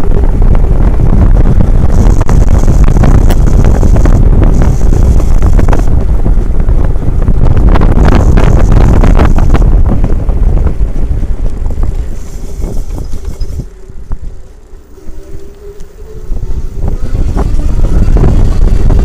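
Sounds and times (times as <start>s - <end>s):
faint electric motor whine: 0.0s - 19.0s
wind buffeting microphone: 0.0s - 19.0s.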